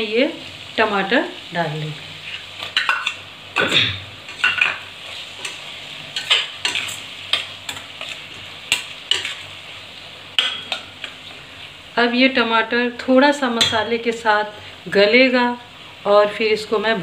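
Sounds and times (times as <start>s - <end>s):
steady sizzle: 0.0s - 17.0s.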